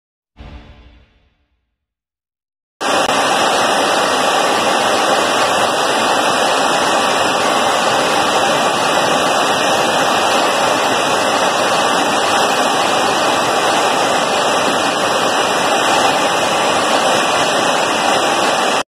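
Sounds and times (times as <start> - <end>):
aircraft jet engine roar: 2.8 - 18.8.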